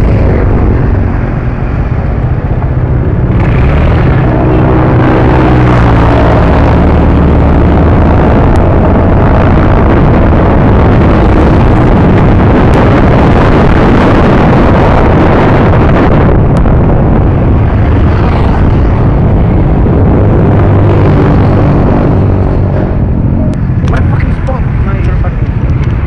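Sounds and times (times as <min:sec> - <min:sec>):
motorcycle engine hum: 0:00.0 - 0:26.0
wind buffeting microphone: 0:00.0 - 0:26.0.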